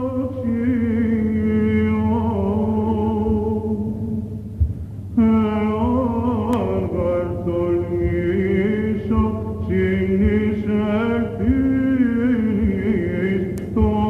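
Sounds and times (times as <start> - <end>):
solo cantor chanting a hymn: 0.0 - 14.0.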